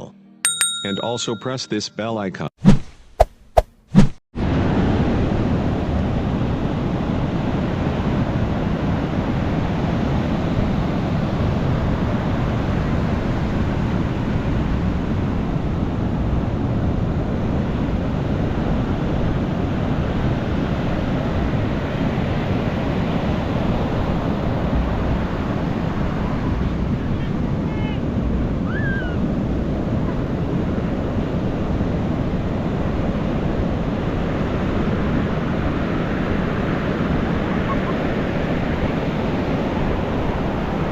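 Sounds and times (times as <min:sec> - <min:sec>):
ocean waves breaking on beach: 0:04.4 - 0:40.9.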